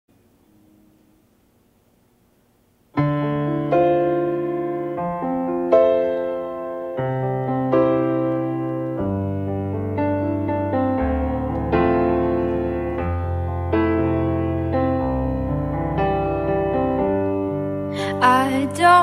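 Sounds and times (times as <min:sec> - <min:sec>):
slow piano chords: 0:02.9 - 0:19.0.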